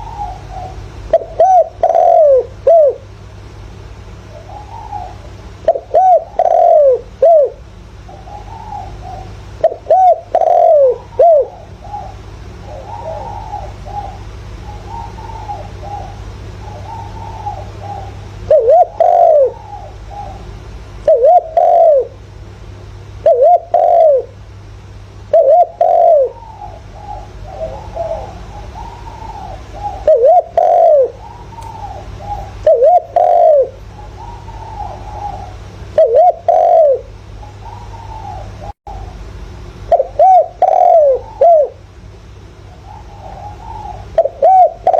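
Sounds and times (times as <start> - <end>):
dove cooing: 0.0 - 3.1, 4.2 - 22.2, 23.1 - 24.4, 25.3 - 41.9, 42.6 - 44.9.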